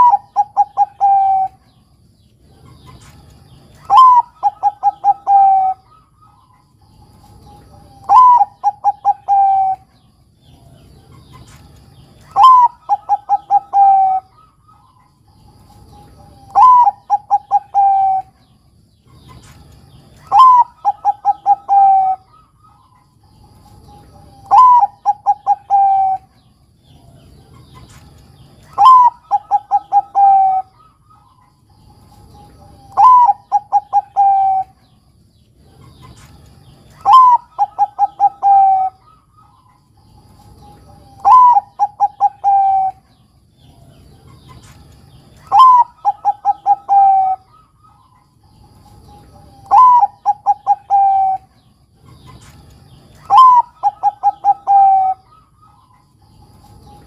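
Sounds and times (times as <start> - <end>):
dove cooing: 0.0 - 1.8, 2.4 - 19.4, 20.2 - 35.0, 35.6 - 57.0.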